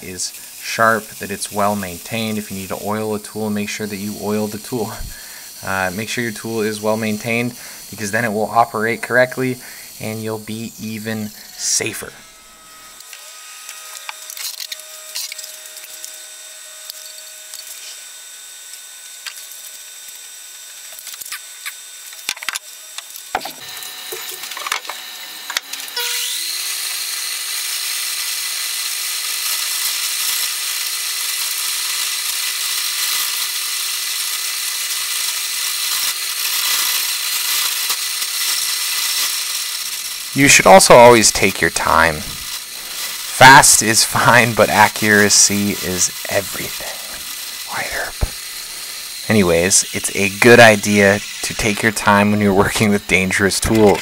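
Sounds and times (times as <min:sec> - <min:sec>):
lathe motor whine: 0:00.0 - 0:54.0
tool cutting spinning wood: 0:00.0 - 0:54.0.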